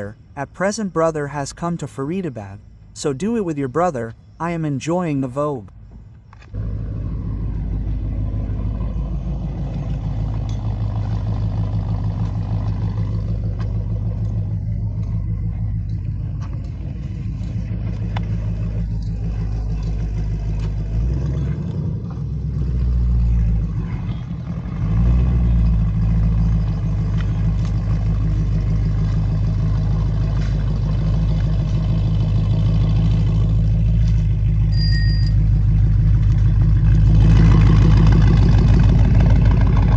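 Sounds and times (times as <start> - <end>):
car engine running: 5.8 - 39.9.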